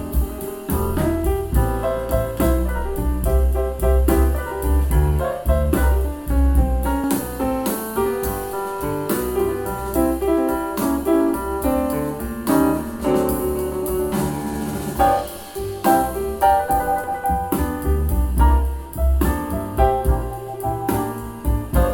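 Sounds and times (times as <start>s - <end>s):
jazz with piano drums and bass: 0.0s - 21.9s.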